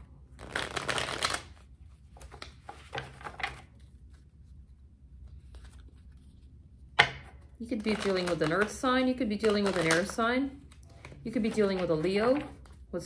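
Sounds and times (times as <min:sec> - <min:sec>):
cards being shuffled: 0:00.4 - 0:04.6, 0:05.2 - 0:06.8, 0:07.4 - 0:12.9.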